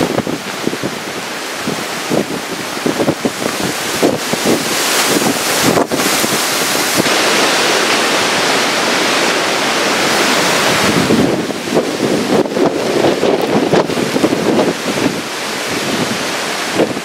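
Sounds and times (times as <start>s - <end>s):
driving rain: 0.0s - 17.0s
strong wind rushing: 0.0s - 17.0s
wind buffeting microphone: 0.0s - 17.0s.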